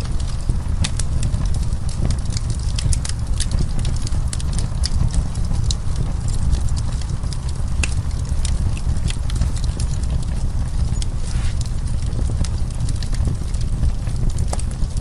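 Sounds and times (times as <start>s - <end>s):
burning wood popping: 0.0s - 15.0s
fire low rumble: 0.0s - 15.0s
wood fire crackling: 0.0s - 15.0s.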